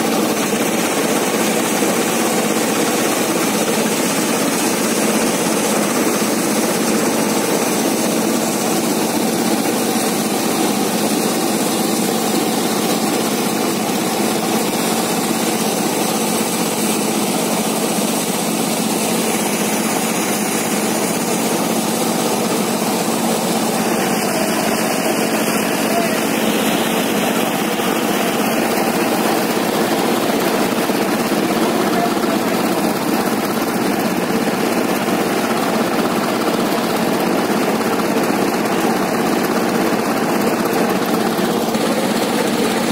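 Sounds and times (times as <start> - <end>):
wheat thresher running: 0.0 - 42.9.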